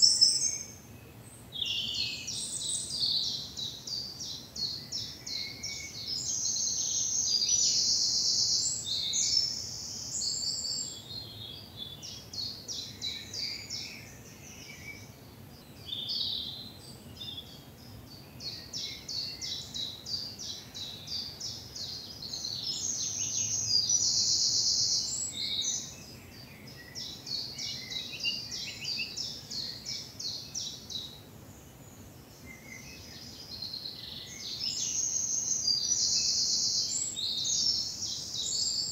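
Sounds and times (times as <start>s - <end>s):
other birds chirping: 0.0s - 38.9s
songbird loud trilling song: 0.0s - 38.9s.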